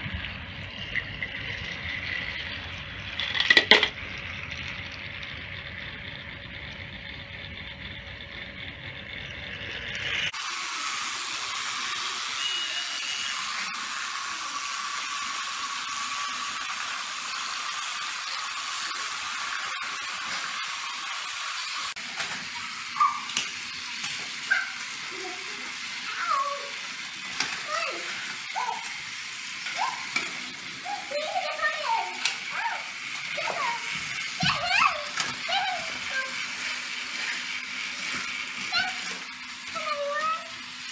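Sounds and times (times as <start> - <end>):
toy train motor whirring: 3.0 - 4.0, 5.2 - 40.9.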